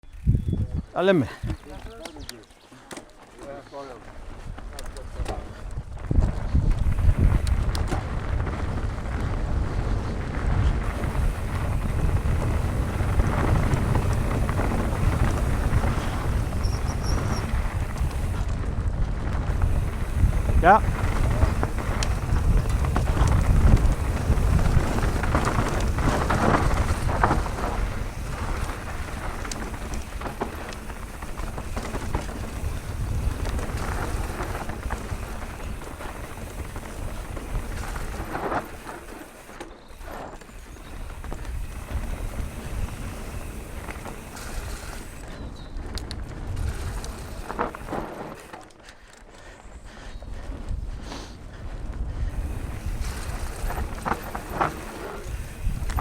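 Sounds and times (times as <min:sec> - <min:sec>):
wind buffeting microphone: 0:00.0 - 0:02.4, 0:03.9 - 0:48.5, 0:49.3 - 0:56.0
tyre rumble over dirt and rock: 0:03.0 - 0:48.7, 0:51.6 - 0:56.0
bike knocks and rattles: 0:04.5 - 0:48.8, 0:52.3 - 0:56.0.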